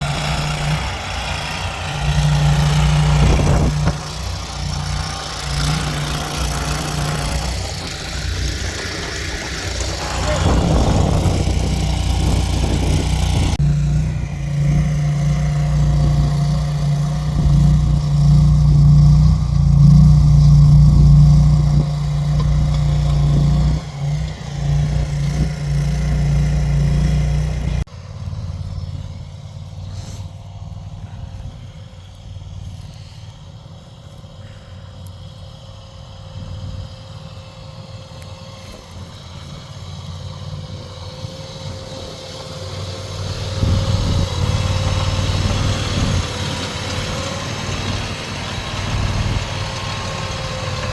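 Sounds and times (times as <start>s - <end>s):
small engine running steadily: 0.0s - 50.9s.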